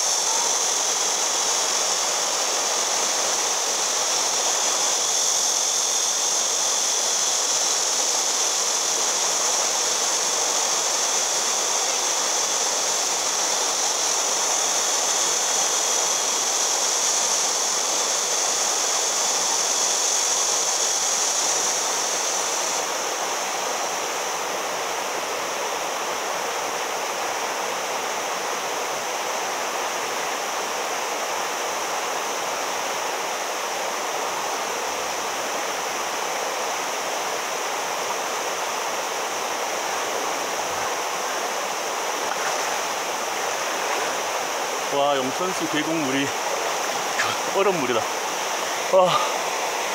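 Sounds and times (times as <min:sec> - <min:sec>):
flowing and falling water: 0:00.0 - 0:49.9.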